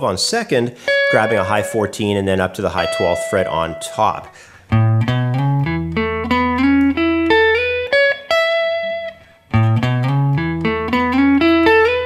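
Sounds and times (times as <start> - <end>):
electric guitar sliding lick: 0.7 - 12.0.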